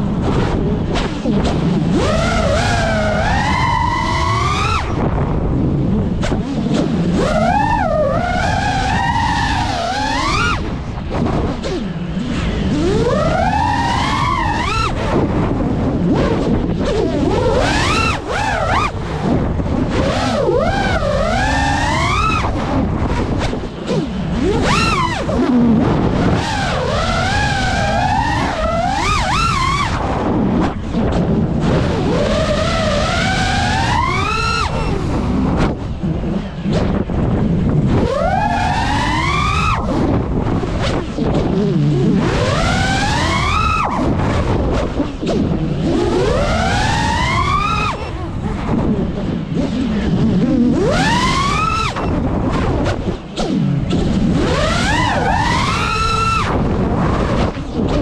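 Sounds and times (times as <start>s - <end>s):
prop wash and wind rush: 0.0s - 58.0s
quadcopter motors whining: 0.4s - 58.0s.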